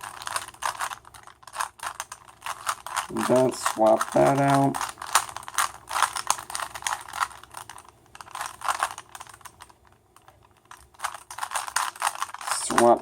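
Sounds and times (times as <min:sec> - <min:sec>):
puzzle cube clicking: 0:00.0 - 0:13.0.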